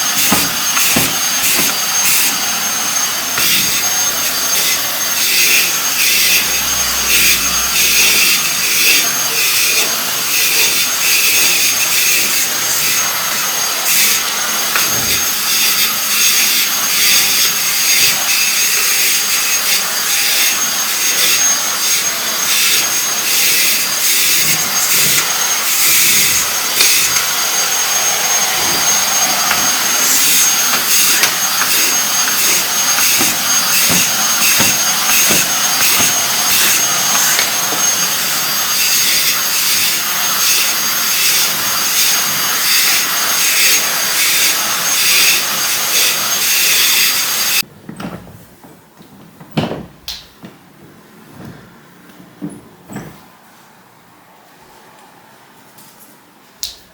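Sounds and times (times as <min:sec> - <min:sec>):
vacuum cleaner running: 0:00.0 - 0:47.6.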